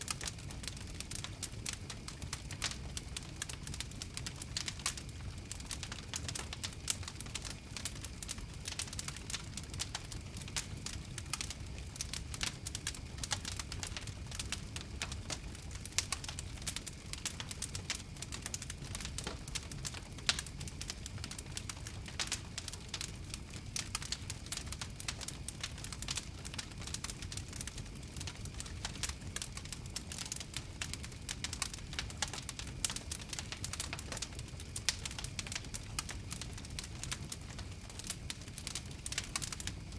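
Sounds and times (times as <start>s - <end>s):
fire popping and snapping: 0.0s - 39.9s
wood fire crackling: 0.0s - 39.9s.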